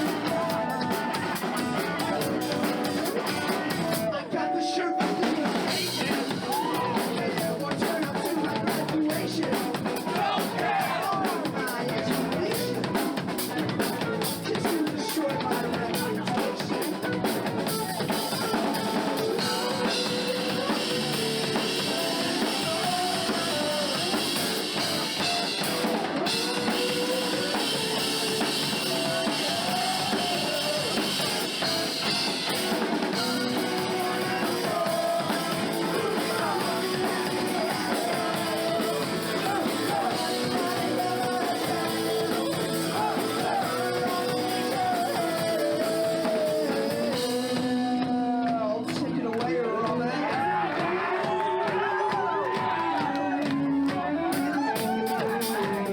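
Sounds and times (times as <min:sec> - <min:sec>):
electric guitar: 0:10.8 - 0:55.9.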